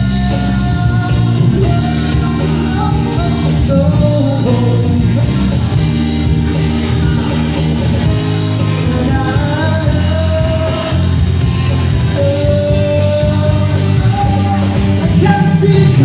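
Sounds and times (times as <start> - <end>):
live band playing pop song: 0.0 - 16.0
person singing: 0.0 - 16.0.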